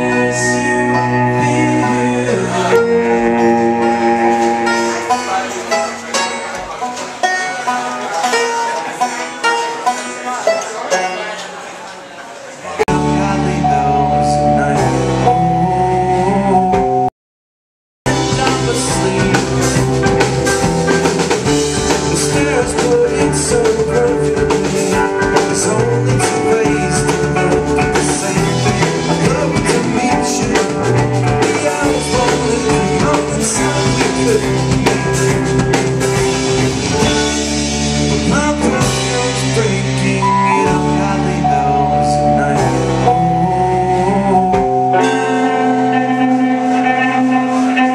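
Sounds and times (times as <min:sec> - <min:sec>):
drums: 0:00.0 - 0:08.9, 0:12.8 - 0:17.1, 0:18.1 - 0:47.9
electric guitars: 0:00.0 - 0:09.2, 0:18.1 - 0:47.9
keyboard: 0:00.0 - 0:11.9, 0:12.7 - 0:17.1, 0:18.1 - 0:47.9.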